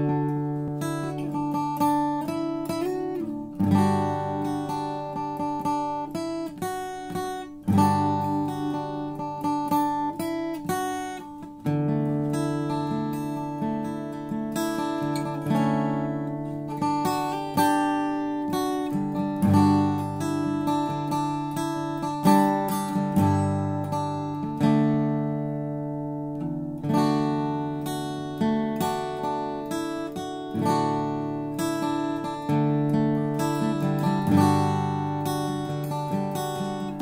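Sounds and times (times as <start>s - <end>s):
acoustic guitar fingerpicking: 0.0s - 37.0s.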